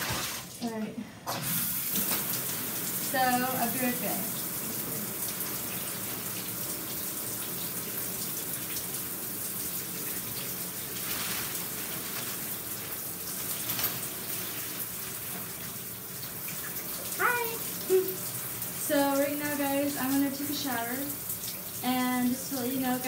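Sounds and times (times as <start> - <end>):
shower water running: 0.0 - 23.0.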